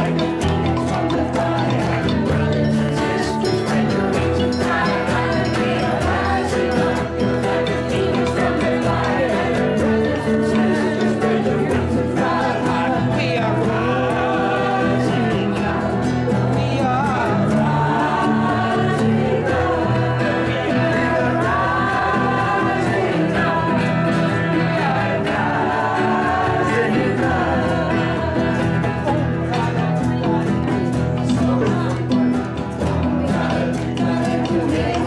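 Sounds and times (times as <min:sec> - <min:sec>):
acoustic guitar: 0:00.0 - 0:35.0
voices singing together: 0:00.0 - 0:35.0.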